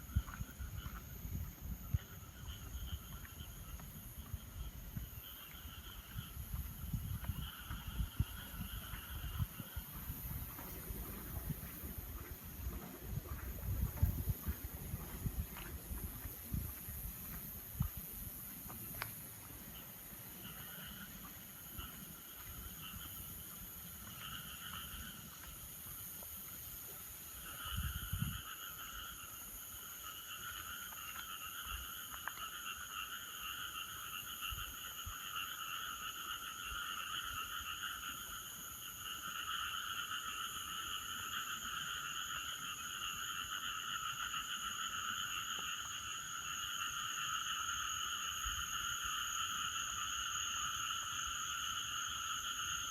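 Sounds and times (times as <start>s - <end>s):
frogs croaking: 0.0s - 52.9s.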